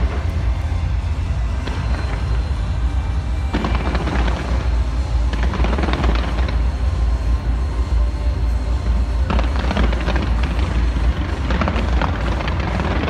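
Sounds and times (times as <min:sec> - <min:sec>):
fireworks crackling: 0:00.0 - 0:13.0
fireworks rumbling bursts: 0:00.0 - 0:13.0.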